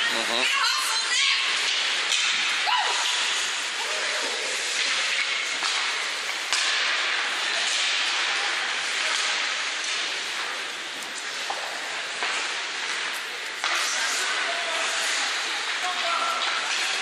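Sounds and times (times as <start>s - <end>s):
arena noise: 0.0s - 17.0s
skates hissing on ice: 0.4s - 17.0s.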